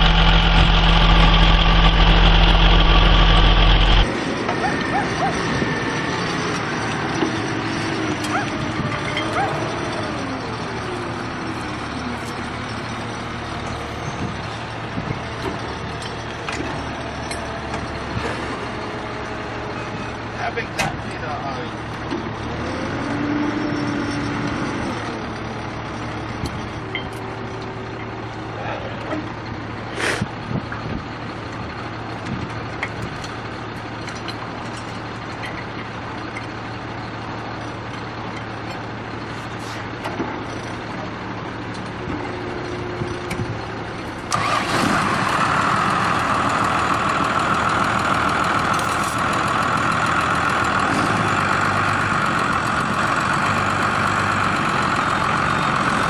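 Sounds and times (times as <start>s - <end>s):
heavy truck engine running: 0.0s - 56.0s.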